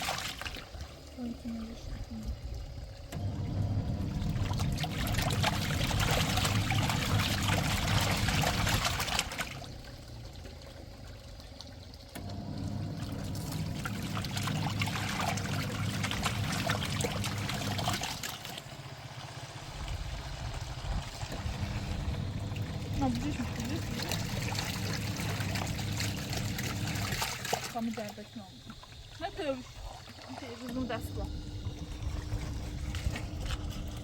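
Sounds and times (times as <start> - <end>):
low motor hum: 0.0 - 34.0
washing machine water sloshing: 0.0 - 34.0.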